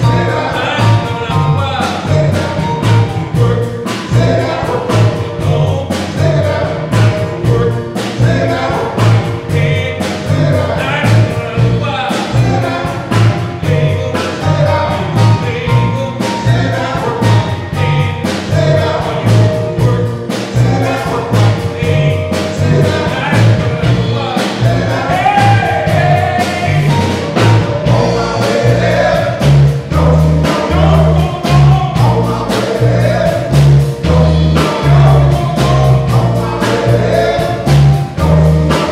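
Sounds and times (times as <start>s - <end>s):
band with steady beat: 0.0s - 38.9s
men's vocal group singing: 0.0s - 38.9s.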